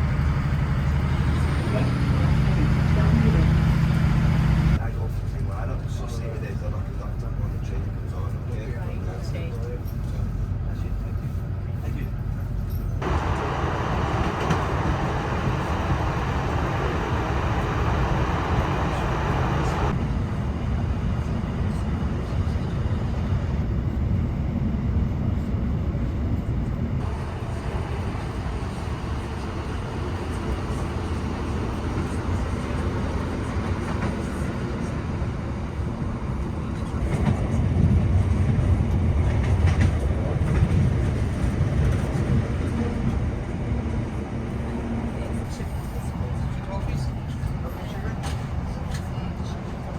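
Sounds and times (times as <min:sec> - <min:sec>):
diesel train rumble inside carriage: 0:00.0 - 0:49.9.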